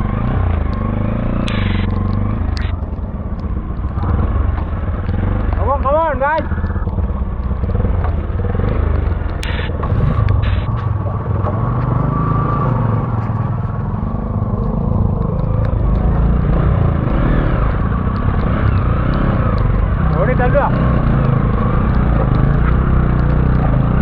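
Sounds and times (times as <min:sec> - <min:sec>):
motorcycle engine running: 0:00.0 - 0:24.0
road rumble: 0:00.0 - 0:24.0.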